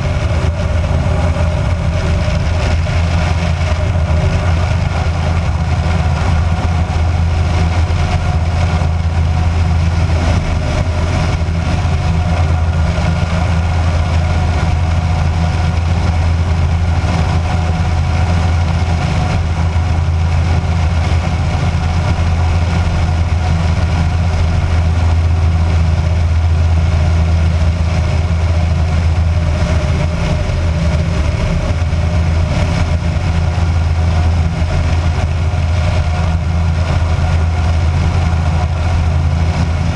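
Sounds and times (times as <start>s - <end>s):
light aircraft engine droning: 0.0s - 39.9s
rush of airflow: 0.0s - 39.9s.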